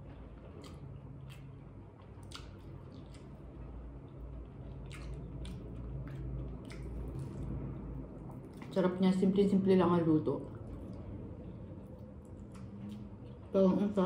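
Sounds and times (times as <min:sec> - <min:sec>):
person chewing: 0:00.0 - 0:08.8, 0:10.5 - 0:13.4
low steady hum: 0:00.0 - 0:14.0.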